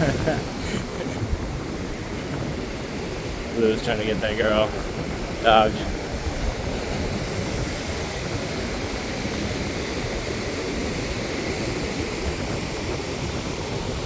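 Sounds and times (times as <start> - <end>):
surf on beach: 0.0 - 14.0
wind: 0.0 - 14.0.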